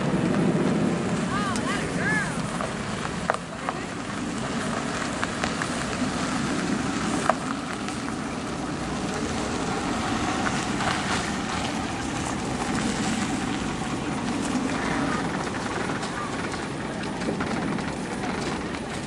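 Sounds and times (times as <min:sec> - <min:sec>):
outdoor rushing noise: 0:00.0 - 0:19.0.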